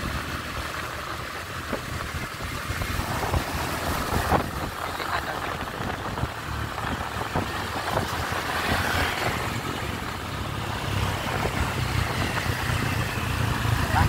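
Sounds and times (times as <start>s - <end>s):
low engine rumble: 0.0s - 14.0s
motorbike engines running: 0.0s - 14.0s
road and wind noise: 0.0s - 14.0s.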